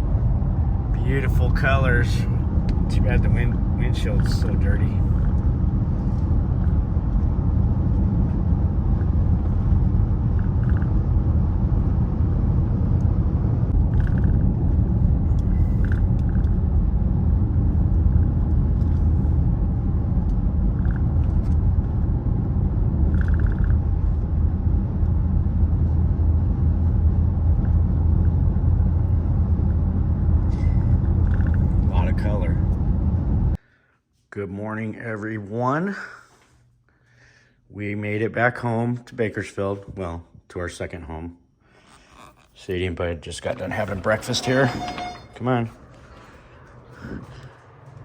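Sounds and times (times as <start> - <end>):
vehicle engine and road noise: 0.0 - 33.6, 41.9 - 48.0.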